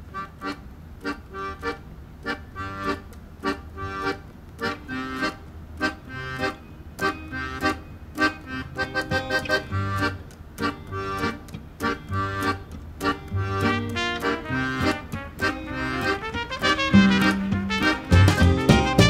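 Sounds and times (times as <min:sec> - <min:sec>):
accordion-like keyboard notes: 0:00.0 - 0:19.0.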